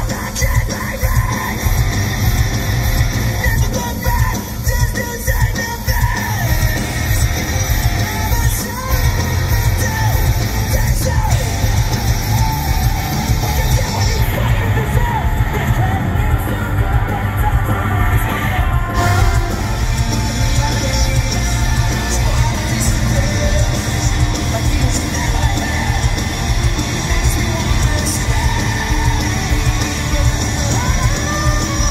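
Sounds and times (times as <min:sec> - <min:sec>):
bass: 0:00.0 - 0:31.9
distorted electric guitars: 0:00.0 - 0:31.9
drums: 0:00.0 - 0:31.9
singer shouting and singing: 0:00.0 - 0:31.9.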